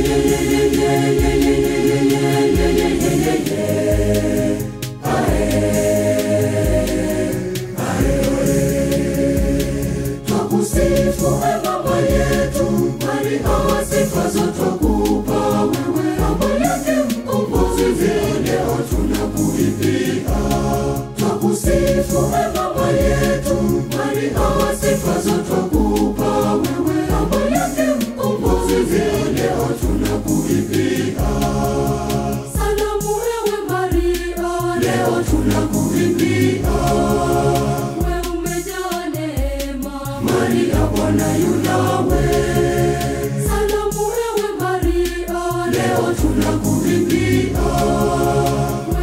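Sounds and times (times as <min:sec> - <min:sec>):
backing music with bass beat: 0:00.0 - 0:49.0
choir singing a hymn: 0:00.0 - 0:49.0.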